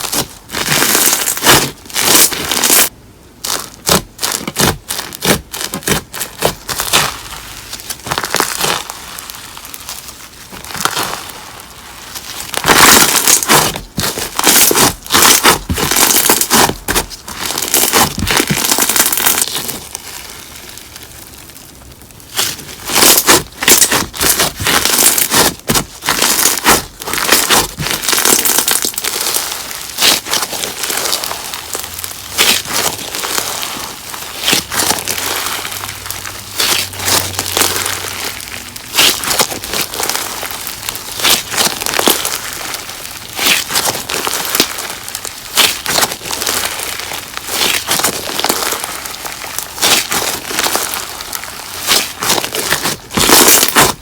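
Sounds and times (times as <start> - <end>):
crunchy slime crackling: 0.0 - 54.0.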